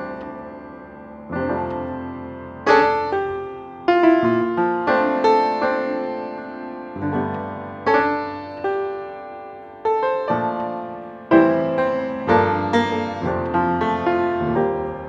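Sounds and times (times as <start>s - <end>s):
slow calm piano music: 0.0s - 15.0s.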